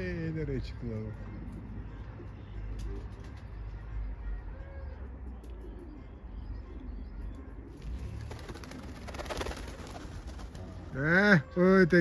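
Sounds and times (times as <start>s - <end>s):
pigeons cooing softly: 0.0s - 12.0s.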